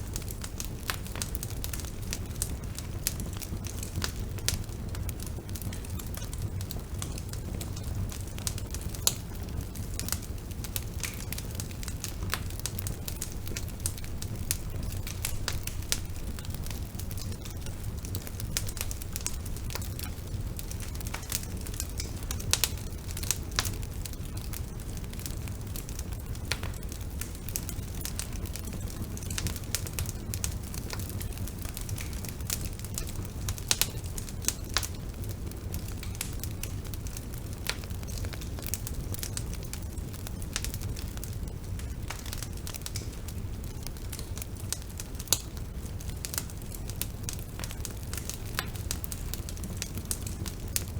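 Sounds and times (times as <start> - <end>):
bonfire rumbling: 0.0 - 50.9
burning wood crackling and popping: 0.0 - 50.9.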